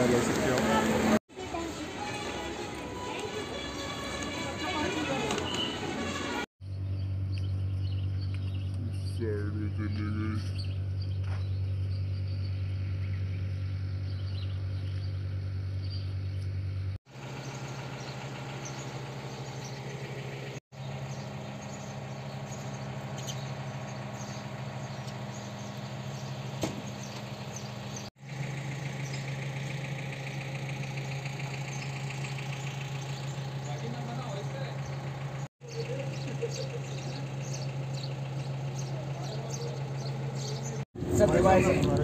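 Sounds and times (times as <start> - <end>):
idling engine hum: 0.0 - 42.0.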